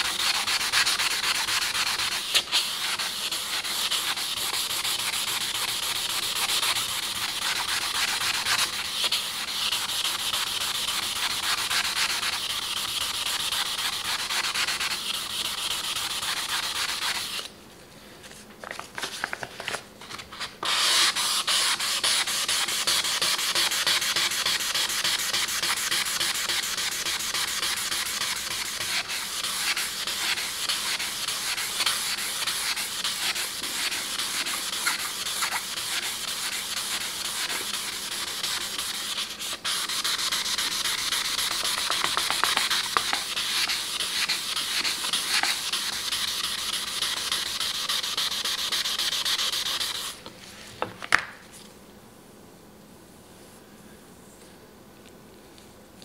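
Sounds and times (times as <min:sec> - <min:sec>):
sandpaper rubbing on steel blade: 0:00.0 - 0:17.5, 0:20.4 - 0:50.2.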